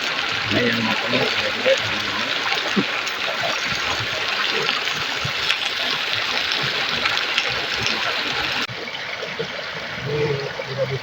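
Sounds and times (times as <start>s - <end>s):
river stream rushing: 0.0s - 9.3s.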